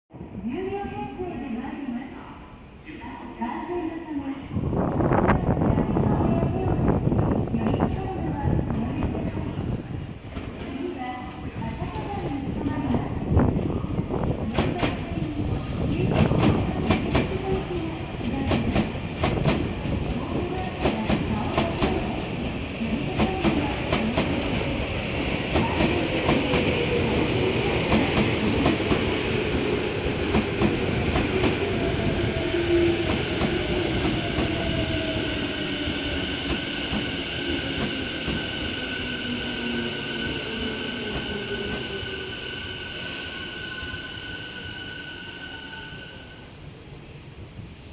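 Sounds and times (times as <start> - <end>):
smooth train running noise: 0.2 - 47.9.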